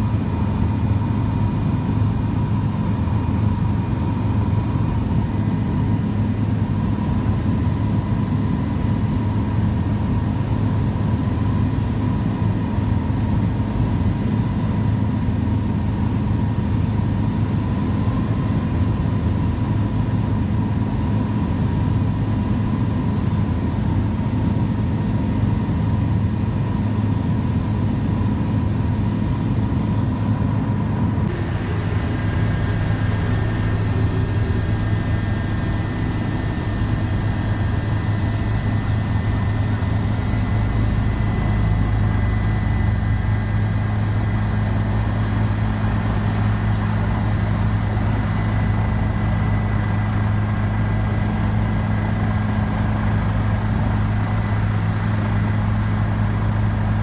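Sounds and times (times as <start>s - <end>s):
constant high whine: 0.0s - 57.0s
helicopter engine and rotor drone: 0.0s - 57.0s.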